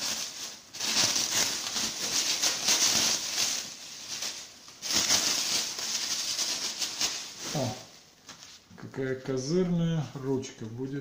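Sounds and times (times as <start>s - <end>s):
bubble wrap crinkling: 0.0s - 10.4s.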